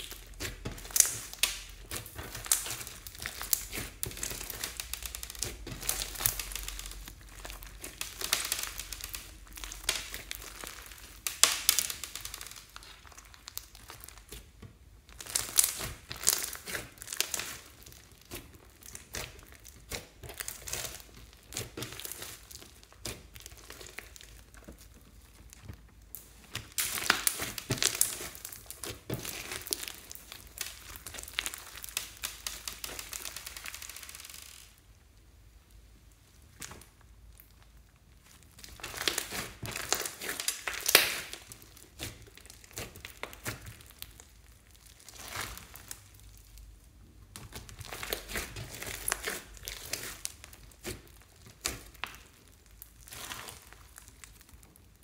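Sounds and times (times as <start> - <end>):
slime kneading clicks and crackles: 0.0 - 34.8, 36.2 - 55.0.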